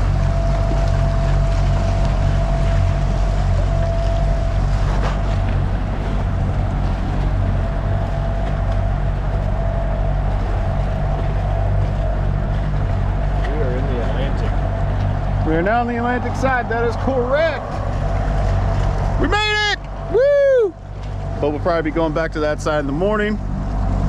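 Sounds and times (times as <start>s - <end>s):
motor whine: 0.0s - 24.0s
outboard motor running: 0.0s - 24.0s
wind and water rushing: 0.0s - 24.0s.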